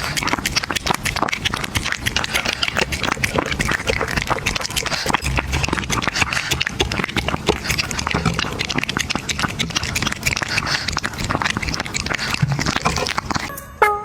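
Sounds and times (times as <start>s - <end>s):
pet crunching and chewing: 0.0s - 13.5s.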